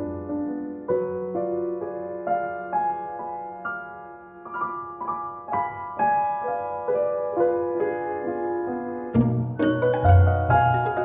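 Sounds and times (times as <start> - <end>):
slow classical piano melody: 0.0 - 11.0.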